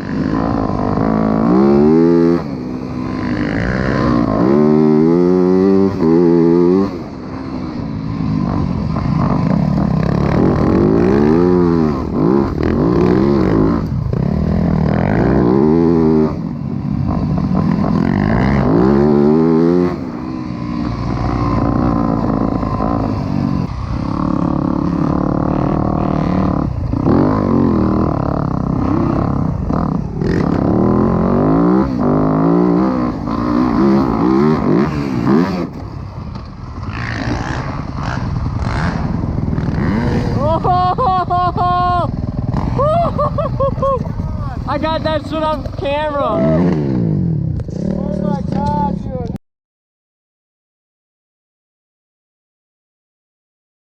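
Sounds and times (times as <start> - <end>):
dirt bike engine revving: 0.0 - 49.3.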